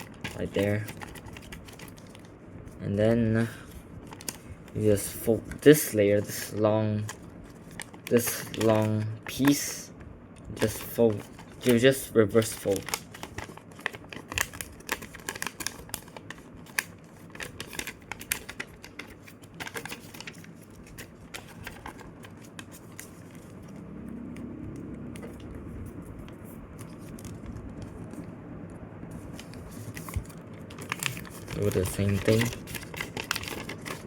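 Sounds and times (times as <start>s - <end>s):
paper crinkling and rustling: 0.0s - 23.9s, 25.1s - 28.4s, 29.1s - 34.0s.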